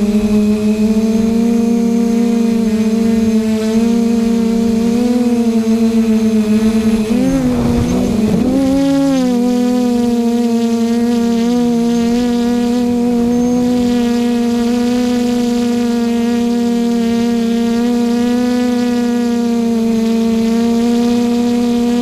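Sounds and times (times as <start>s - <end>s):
drone motors droning: 0.0s - 22.0s.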